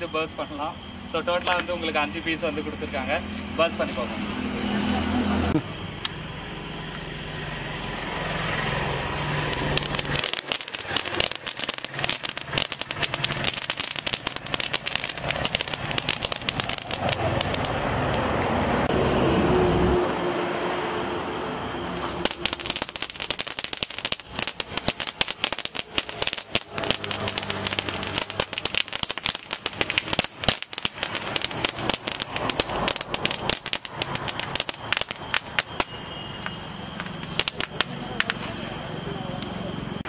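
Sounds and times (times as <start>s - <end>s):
firework hissing and crackling: 0.0s - 40.0s.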